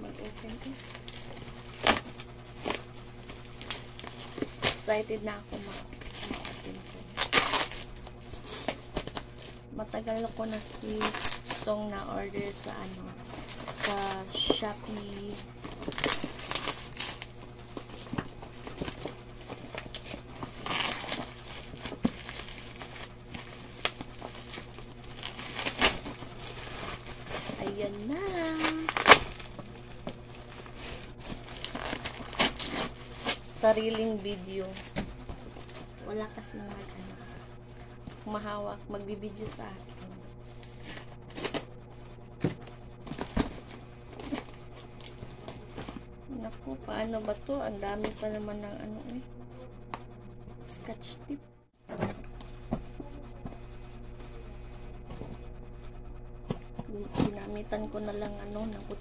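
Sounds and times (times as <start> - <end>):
bubble wrap and cardboard rustling: 0.0 - 38.5, 39.2 - 46.0, 56.5 - 59.0.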